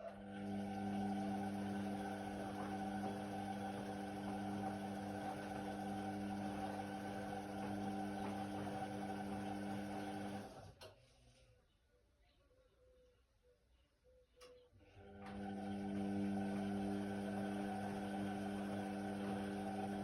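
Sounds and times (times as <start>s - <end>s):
washer-dryer motor humming: 0.0s - 10.9s, 14.8s - 20.0s.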